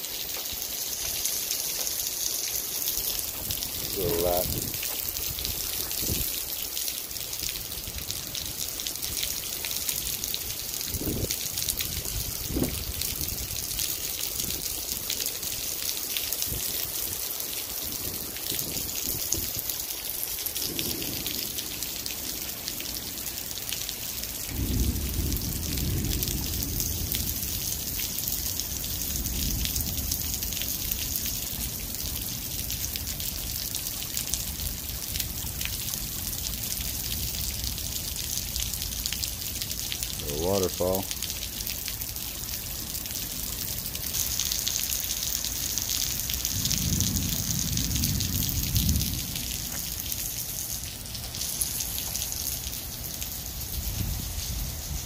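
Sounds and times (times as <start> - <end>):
heavy rain on wet pavement: 0.0 - 55.0.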